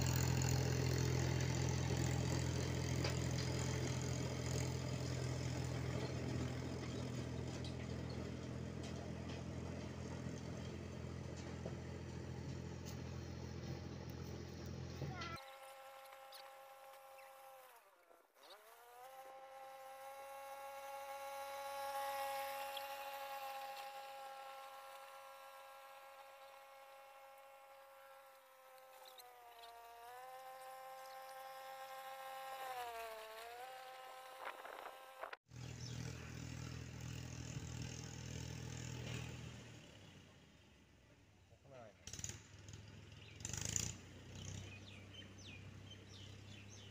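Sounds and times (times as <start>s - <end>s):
rough tractor running noise: 0.0s - 17.8s, 18.4s - 32.4s, 33.6s - 40.2s, 42.0s - 46.9s
tractor engine hum: 0.0s - 41.2s, 42.3s - 46.9s.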